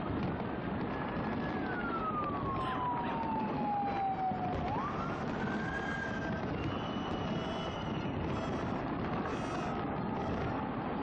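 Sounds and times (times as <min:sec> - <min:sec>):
fireworks crackling and banging: 0:00.0 - 0:11.0
siren wailing: 0:00.9 - 0:11.0.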